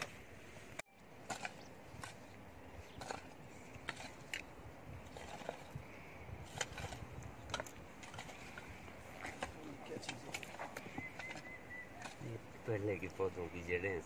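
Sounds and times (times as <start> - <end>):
spade scraping soil: 0.0 - 13.1.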